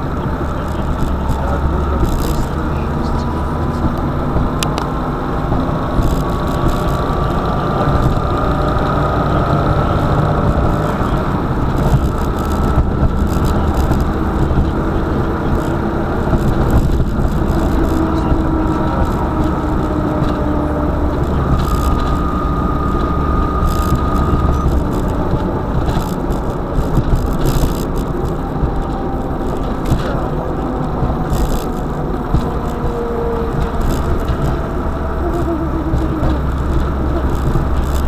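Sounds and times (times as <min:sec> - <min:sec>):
car engine running: 0:00.0 - 0:38.0
road noise: 0:00.0 - 0:38.0.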